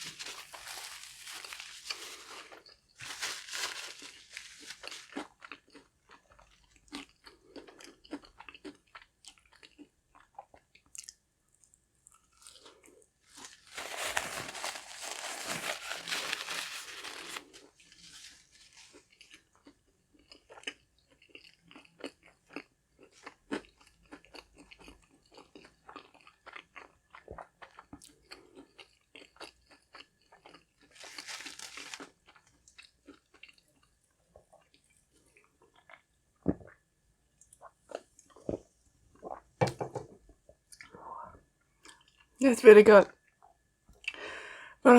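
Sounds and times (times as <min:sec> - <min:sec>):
chewing and crunching food: 0:00.0 - 0:42.4.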